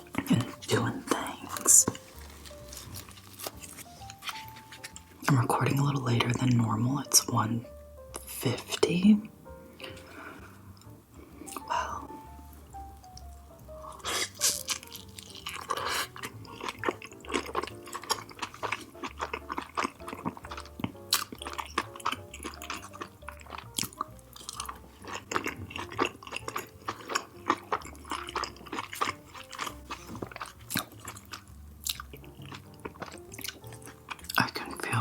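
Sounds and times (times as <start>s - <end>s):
close chewing with mouth clicks: 0.0s - 5.3s, 10.8s - 35.0s
background music: 0.0s - 35.0s.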